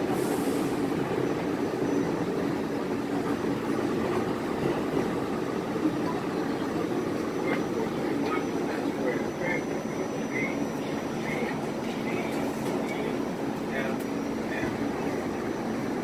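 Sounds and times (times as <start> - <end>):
subway car rumbling on rails: 0.0 - 16.0.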